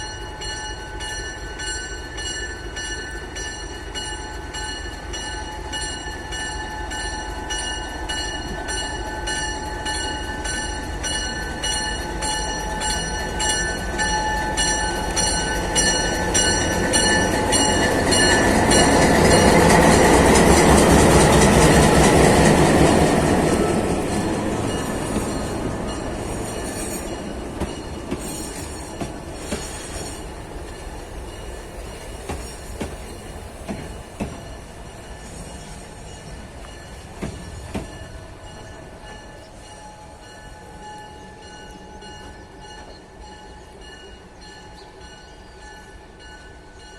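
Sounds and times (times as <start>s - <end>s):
diesel locomotive engine whine: 0.0s - 46.9s.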